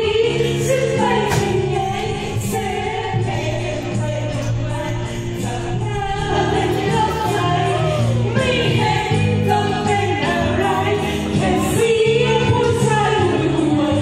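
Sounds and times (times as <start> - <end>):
backing music: 0.0 - 14.0
people singing into microphones: 0.0 - 14.0.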